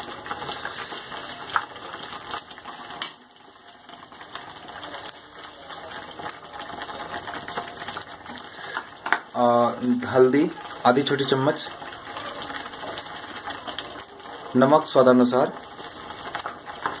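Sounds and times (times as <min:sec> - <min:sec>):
masala frying and spluttering: 0:00.0 - 0:17.0.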